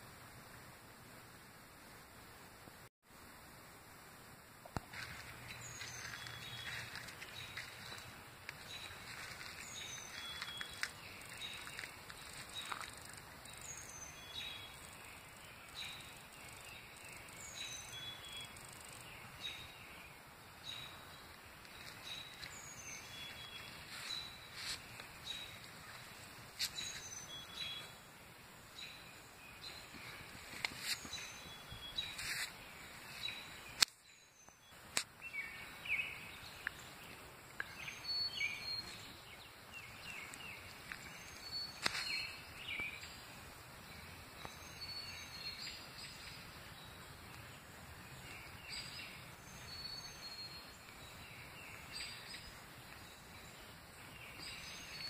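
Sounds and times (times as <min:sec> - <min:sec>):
bird chirps: 0:05.5 - 0:28.0, 0:28.8 - 0:43.2, 0:44.0 - 0:47.5, 0:48.2 - 0:55.0.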